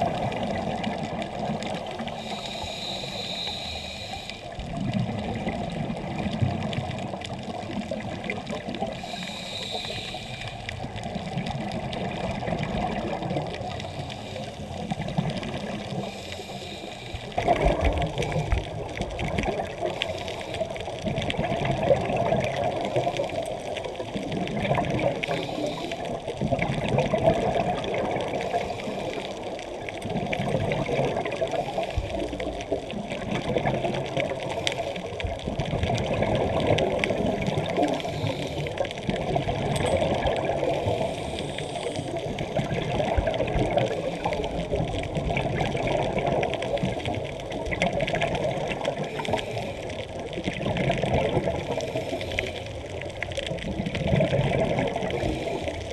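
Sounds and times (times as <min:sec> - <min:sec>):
muffled underwater rumble: 0:00.0 - 0:55.9
scuba regulator exhaust bubbles: 0:00.0 - 0:55.9.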